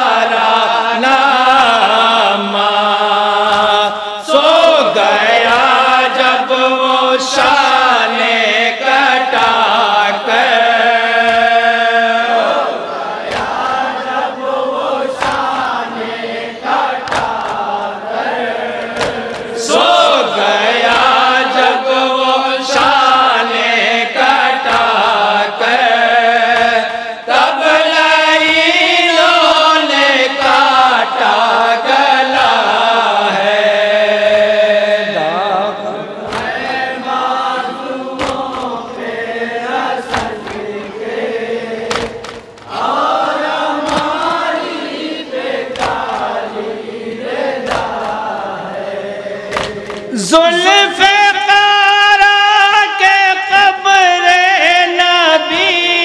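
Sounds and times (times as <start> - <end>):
men reciting in unison over speakers: 0.0 - 56.0.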